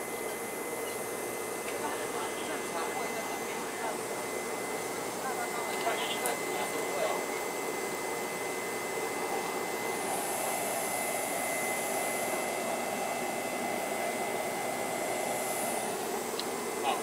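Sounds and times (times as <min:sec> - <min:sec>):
thin high whine: 0:00.0 - 0:17.0
train blowers whirring: 0:00.0 - 0:17.0.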